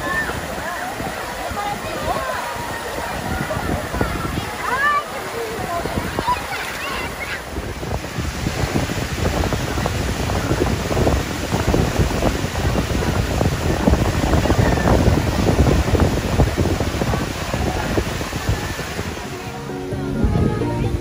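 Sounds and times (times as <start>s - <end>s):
small water splashes: 0.0s - 19.5s
waterfall rushing into pool: 0.0s - 21.0s.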